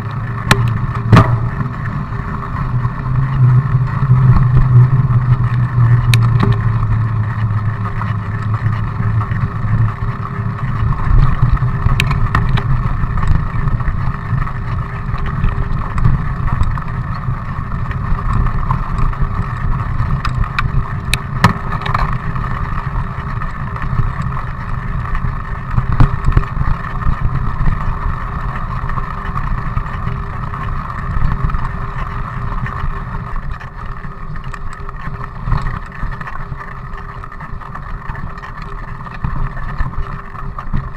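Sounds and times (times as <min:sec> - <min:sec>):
wind buffeting microphone: 0:00.0 - 0:36.8
bike knocks and rattles: 0:00.0 - 0:40.9
bike tyres on asphalt and gravel: 0:00.0 - 0:40.9.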